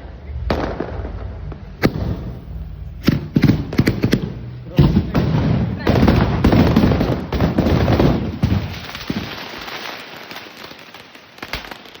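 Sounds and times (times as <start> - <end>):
fireworks crackling: 0.0 - 12.0
sharp fireworks pops: 0.4 - 12.0.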